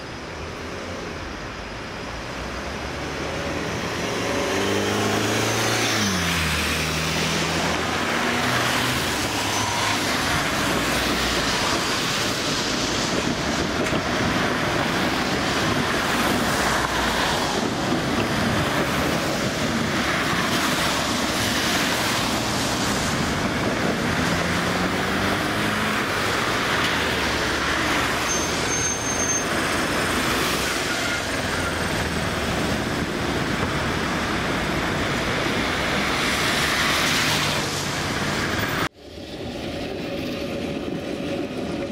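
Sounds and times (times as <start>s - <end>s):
traffic on a wet road: 0.0s - 41.9s
trams passing: 0.0s - 41.9s.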